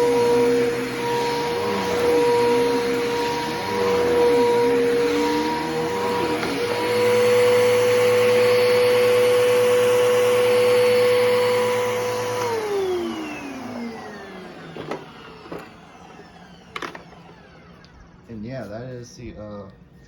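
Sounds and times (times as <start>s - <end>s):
vacuum cleaner running and winding down: 0.0s - 18.6s.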